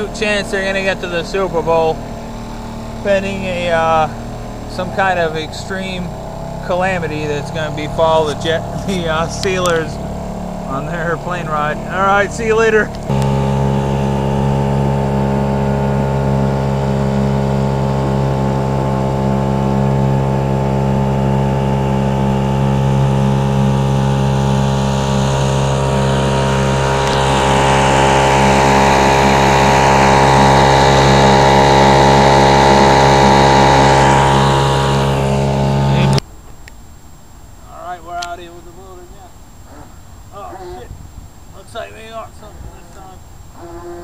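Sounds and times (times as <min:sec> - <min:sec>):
outboard motor running: 0:00.0 - 0:36.2, 0:39.5 - 0:44.0.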